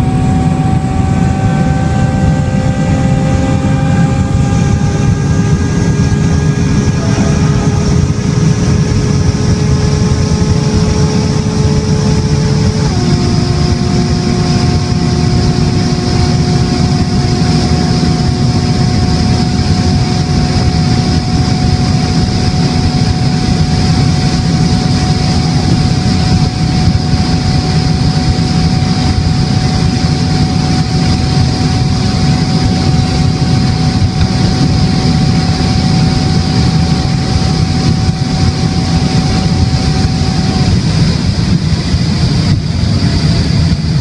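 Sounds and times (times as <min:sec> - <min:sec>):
car engine droning: 0:00.0 - 0:44.0
thin steady whine: 0:00.0 - 0:44.0.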